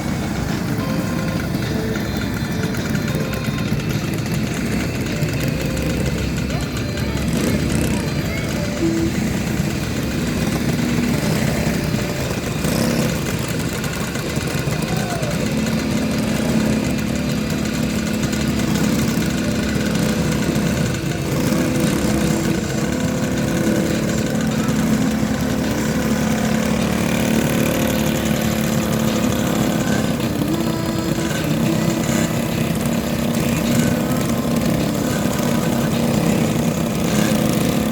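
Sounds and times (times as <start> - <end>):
motorcycle engines idling: 0.0 - 37.9.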